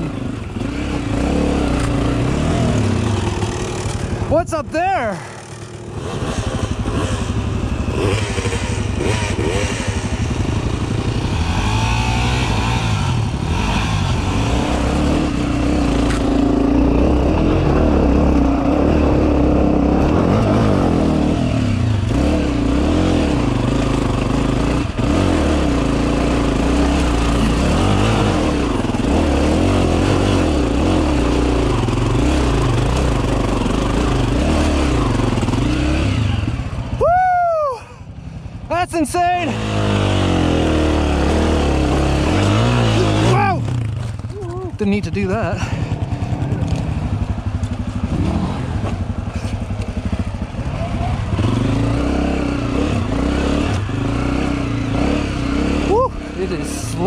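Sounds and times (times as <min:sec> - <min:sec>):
dirt bike engine revving: 0:00.0 - 0:37.0, 0:38.9 - 0:57.0.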